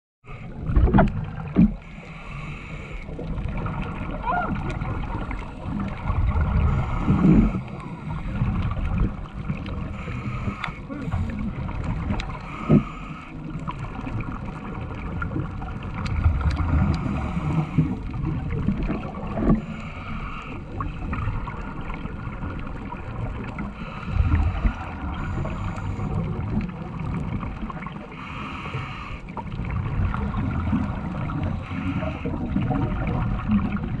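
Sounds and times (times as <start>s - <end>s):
underwater rumble of moving water: 0.2s - 34.0s.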